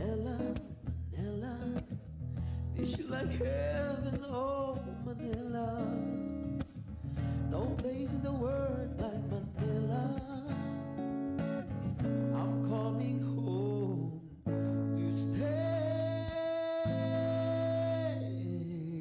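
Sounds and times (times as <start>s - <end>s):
guitar-backed song: 0.0s - 19.0s.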